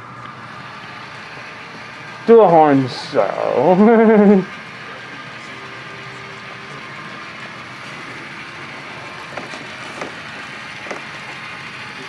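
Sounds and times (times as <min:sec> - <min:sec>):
model train hiss: 0:00.4 - 0:12.0.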